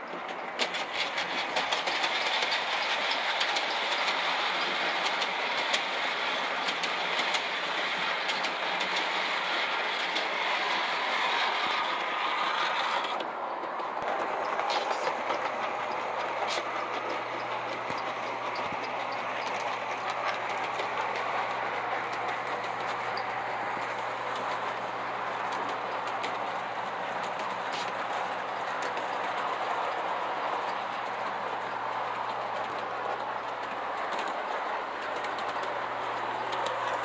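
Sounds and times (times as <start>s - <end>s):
model train whirring rattle: 0.0s - 37.0s
wheels clicking over rail joints: 0.0s - 37.0s.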